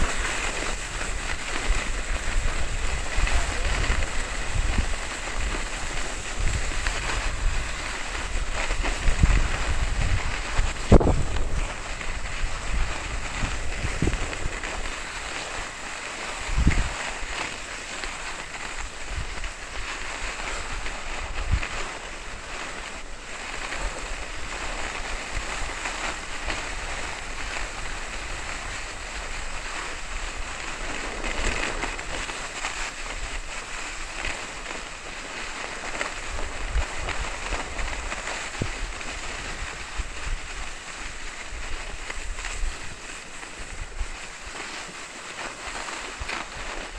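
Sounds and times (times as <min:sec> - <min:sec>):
skis scraping on snow: 0:00.0 - 0:46.9
wind buffeting microphone: 0:00.0 - 0:46.9.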